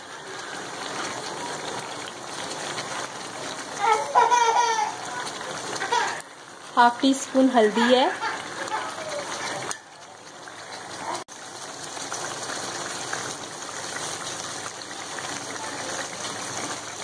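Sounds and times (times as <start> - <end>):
masala sizzling in oil: 0.0 - 17.0.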